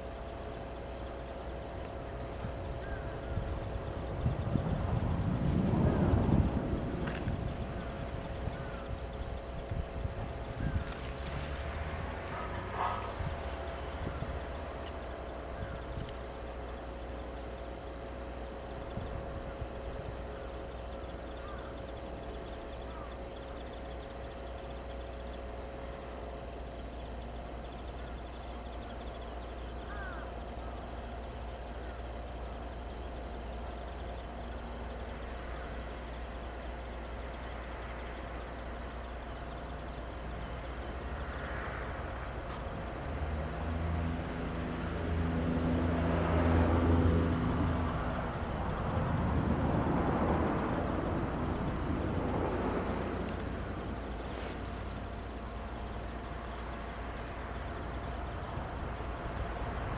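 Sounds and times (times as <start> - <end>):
engine hum: 0.0 - 59.9
low outdoor background: 0.0 - 59.9.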